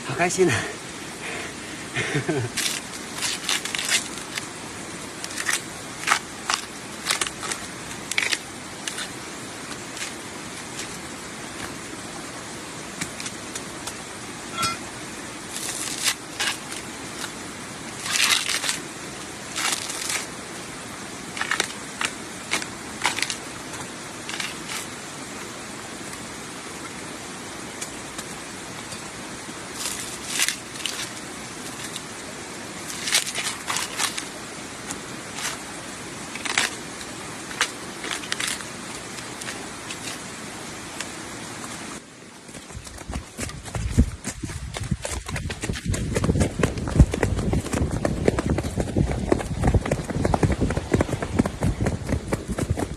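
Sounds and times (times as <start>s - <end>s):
steady hiss: 0.0s - 52.9s.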